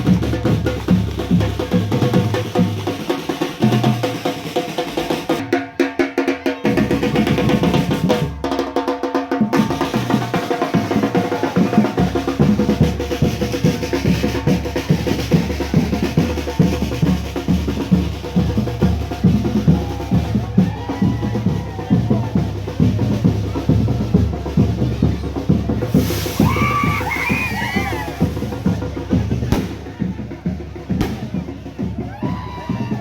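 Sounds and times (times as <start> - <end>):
bass drums beating: 0.0 - 4.2, 9.5 - 33.0
snare drums and rolls: 0.0 - 5.5, 9.4 - 33.0.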